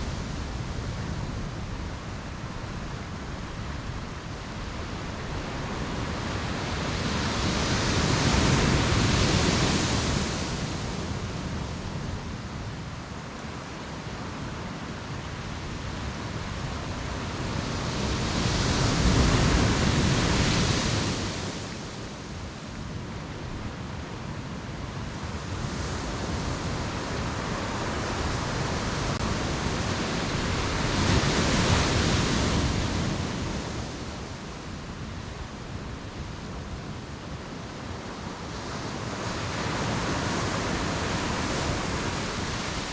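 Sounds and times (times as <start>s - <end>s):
steady sea background: 0.0s - 42.9s
waves breaking on beach: 0.0s - 42.9s.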